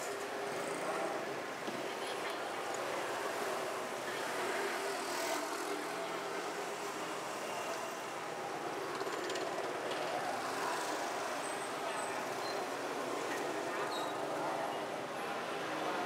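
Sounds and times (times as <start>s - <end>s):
street background noise: 0.0s - 16.0s.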